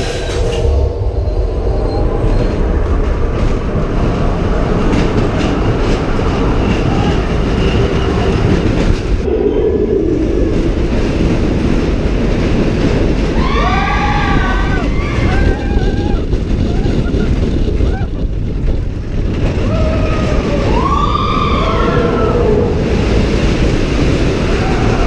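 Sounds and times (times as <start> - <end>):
ride train rumbling on track: 0.0 - 25.0.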